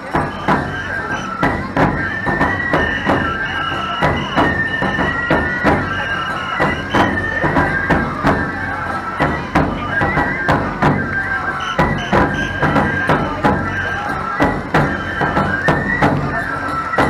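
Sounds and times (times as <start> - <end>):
bamboo flute melody: 0.0 - 17.0
taiko drums: 0.0 - 17.0.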